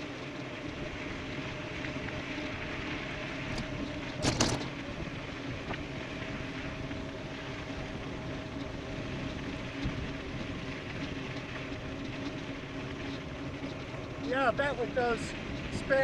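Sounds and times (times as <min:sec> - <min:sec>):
wind and tyre noise: 0:00.0 - 0:16.0.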